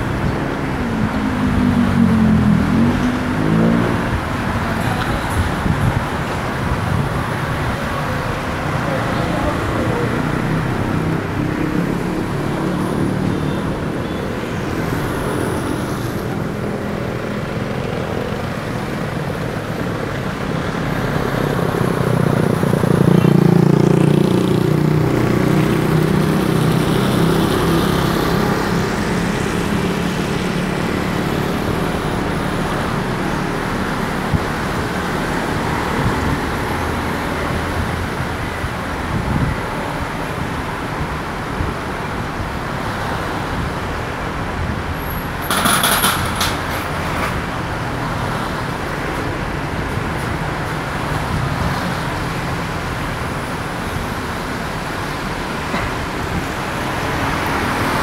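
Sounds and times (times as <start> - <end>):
car engine and tyre noise: 0.0 - 58.0
surrounding traffic: 0.0 - 58.0.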